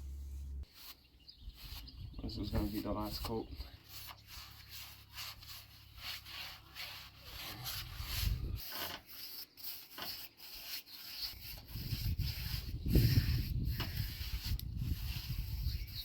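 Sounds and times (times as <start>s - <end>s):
brush scratching on wood: 0.0s - 16.0s.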